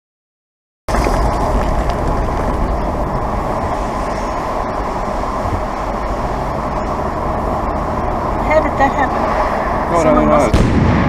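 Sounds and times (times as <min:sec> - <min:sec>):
moving car rumble: 0:00.9 - 0:11.0.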